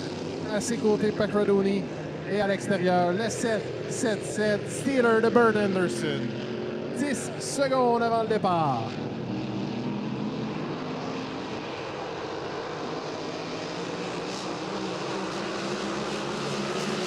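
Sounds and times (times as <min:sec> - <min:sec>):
racing boat engines droning: 0:00.0 - 0:17.0.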